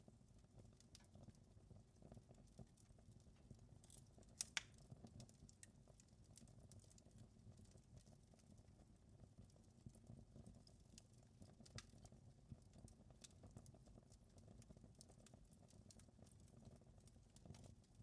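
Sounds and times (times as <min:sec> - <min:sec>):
wood fire crackling: 0:00.1 - 0:18.0.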